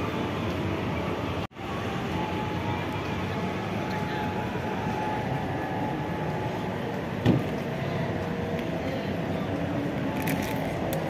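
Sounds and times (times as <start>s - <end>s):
bus engines idling: 0.0s - 11.0s.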